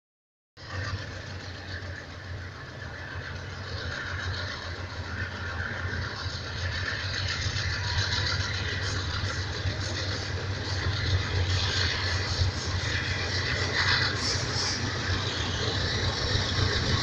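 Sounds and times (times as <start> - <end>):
locomotive engines droning: 0.6 - 17.0.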